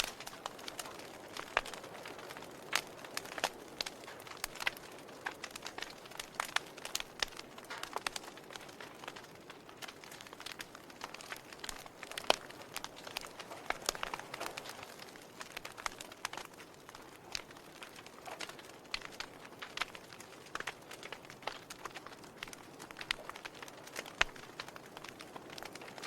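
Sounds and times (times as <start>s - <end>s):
hiss of burning wood: 0.0s - 26.0s
log fire crackling: 0.0s - 26.0s
sharp pops and snaps: 0.0s - 26.0s.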